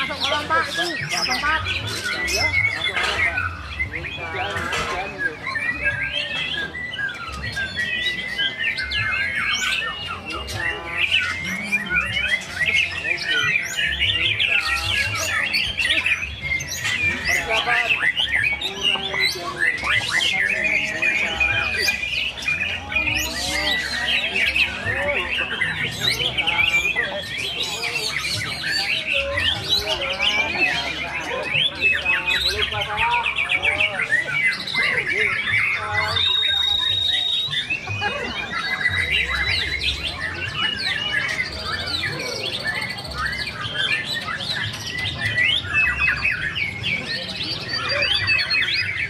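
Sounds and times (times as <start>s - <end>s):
birds singing whistles and chirps: 0.0s - 49.0s
people's voices: 0.0s - 49.0s.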